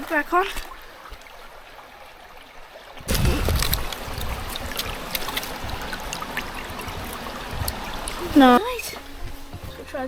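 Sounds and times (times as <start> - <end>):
stream trickling over rocks: 0.0 - 10.0.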